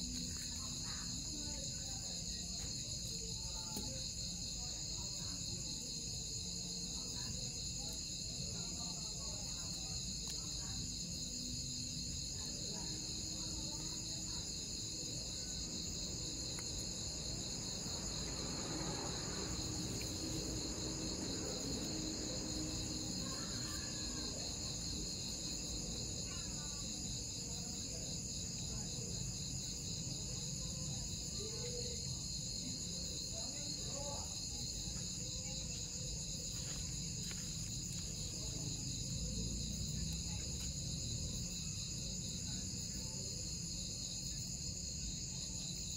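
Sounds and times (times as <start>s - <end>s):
crickets and insects trilling: 0.0s - 45.9s.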